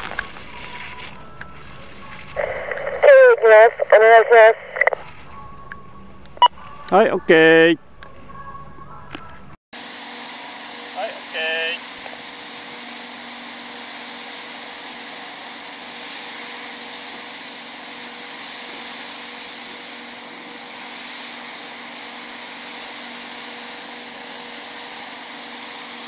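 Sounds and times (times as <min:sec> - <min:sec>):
two-note mechanical hum: 0:00.0 - 0:26.0.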